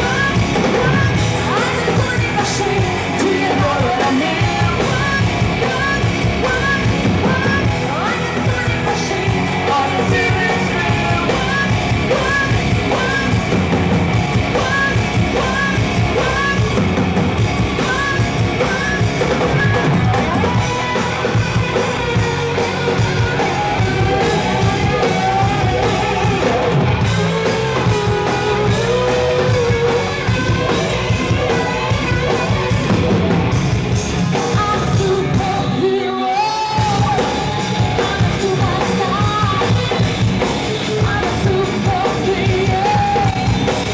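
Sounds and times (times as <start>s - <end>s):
rock band with singer: 0.0s - 43.9s.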